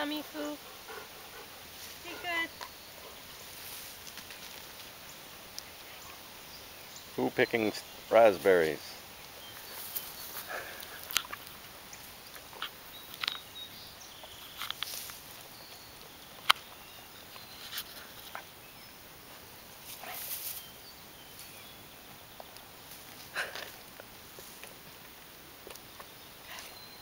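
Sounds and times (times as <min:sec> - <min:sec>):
leaves rustling: 0:00.0 - 0:27.0.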